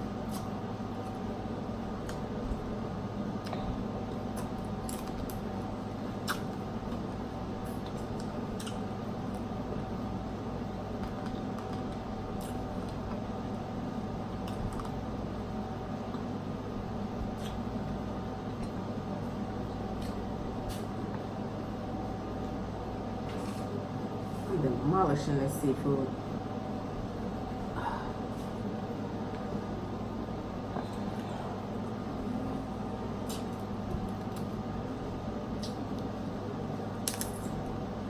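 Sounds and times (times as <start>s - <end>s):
low background hum: 0.0s - 38.0s.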